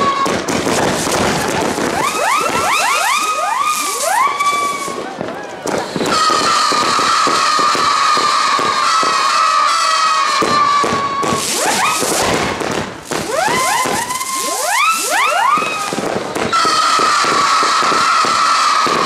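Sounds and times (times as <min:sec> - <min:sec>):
fireworks whistling: 0:00.0 - 0:19.0
rapid crackling pops: 0:00.3 - 0:08.9, 0:10.8 - 0:19.0.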